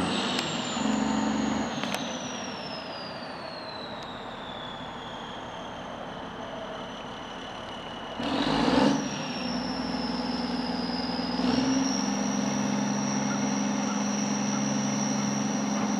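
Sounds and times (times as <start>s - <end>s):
diesel engine whining: 0.0s - 15.9s
loud burst of noise: 0.0s - 15.9s.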